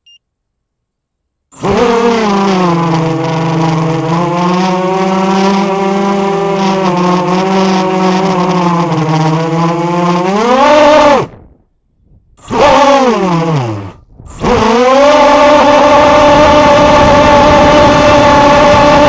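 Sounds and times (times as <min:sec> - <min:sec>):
quadcopter motors whining: 0:01.5 - 0:11.6, 0:12.4 - 0:19.0.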